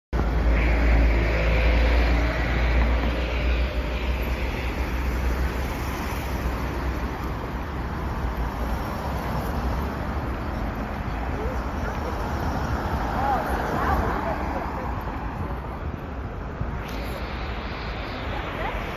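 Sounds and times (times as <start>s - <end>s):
cars and buses passing: 0.1s - 18.9s.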